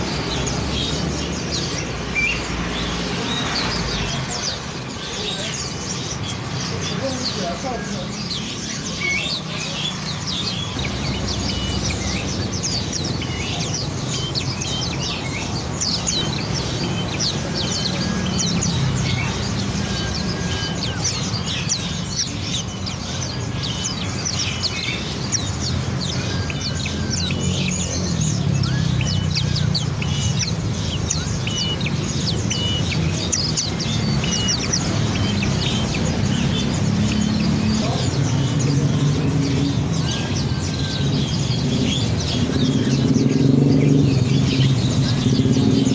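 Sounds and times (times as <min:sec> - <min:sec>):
songbirds chirping and twittering: 0:00.0 - 0:45.9.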